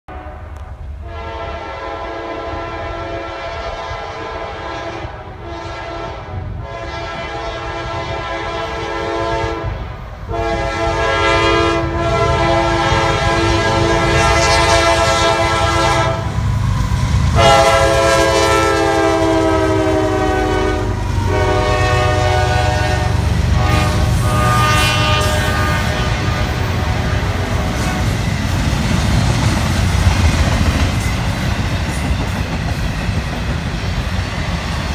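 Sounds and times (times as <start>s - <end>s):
train air horn blasts: 0.1s - 29.0s
train rumble: 0.1s - 34.9s.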